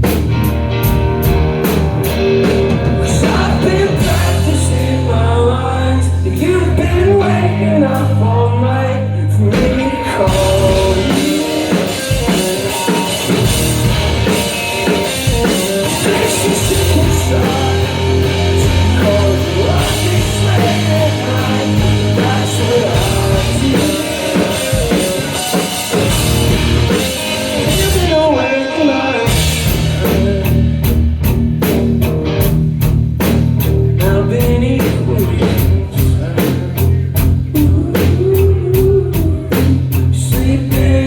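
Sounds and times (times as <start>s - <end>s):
drums and cymbals: 0.0s - 5.3s, 9.5s - 41.0s
rock band playing: 0.0s - 41.0s
person singing: 2.8s - 31.0s, 33.9s - 41.0s.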